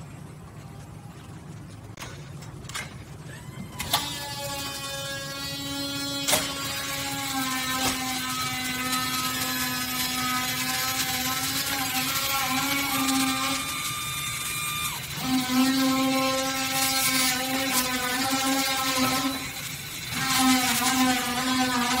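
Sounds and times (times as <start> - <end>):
electric motor whining: 3.3 - 22.0.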